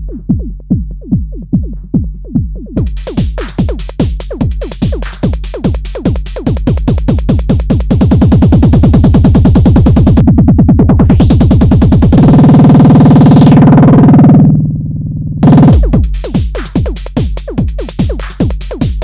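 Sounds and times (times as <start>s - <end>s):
drum machine hits: 0.0s - 13.5s, 15.4s - 19.0s.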